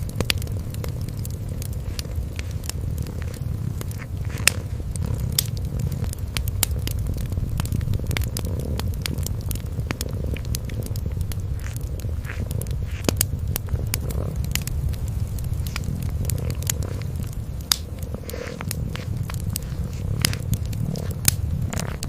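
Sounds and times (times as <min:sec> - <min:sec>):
kitten purring: 0:00.0 - 0:22.0
wood fire crackling: 0:00.0 - 0:22.0.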